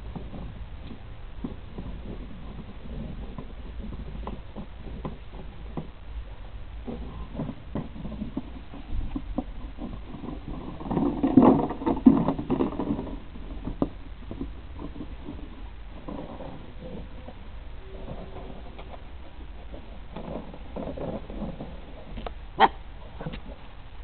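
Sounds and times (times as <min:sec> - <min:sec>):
puppies play-fighting on grass: 0:00.0 - 0:24.0.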